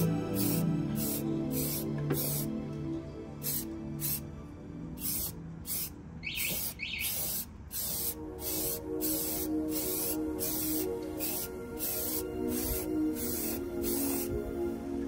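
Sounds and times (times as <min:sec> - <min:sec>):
spray can hissing: 0:00.0 - 0:02.5, 0:03.4 - 0:04.2, 0:05.0 - 0:14.8
background music: 0:00.0 - 0:15.0.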